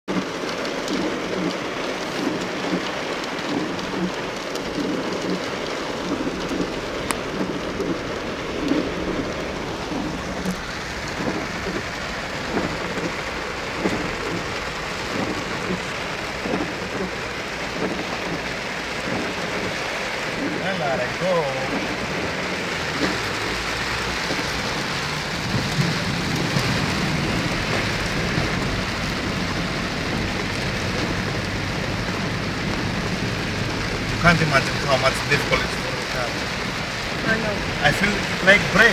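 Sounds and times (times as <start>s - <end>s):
heavy rain on hard surfaces: 0.1s - 38.9s.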